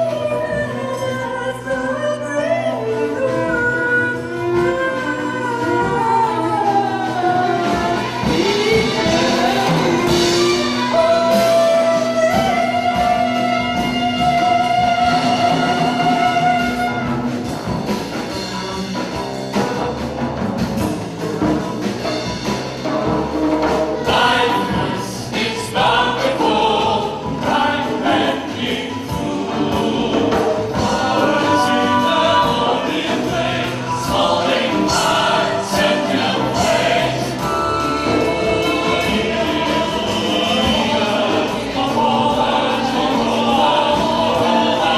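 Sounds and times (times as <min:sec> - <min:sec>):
vocal ensemble singing: 0:00.0 - 0:18.0, 0:22.8 - 0:44.9
drum kit and cymbals: 0:03.3 - 0:44.9.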